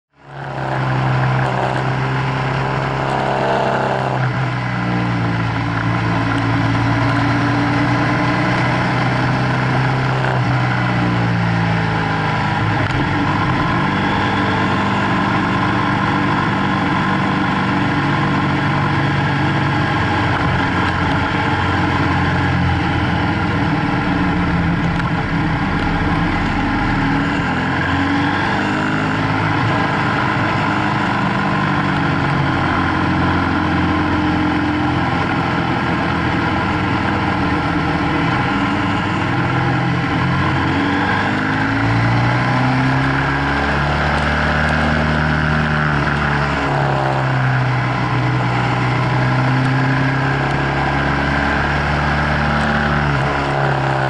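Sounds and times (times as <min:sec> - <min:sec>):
wind and road noise: 0:00.1 - 0:54.0
motorcycle engine running: 0:00.2 - 0:54.0.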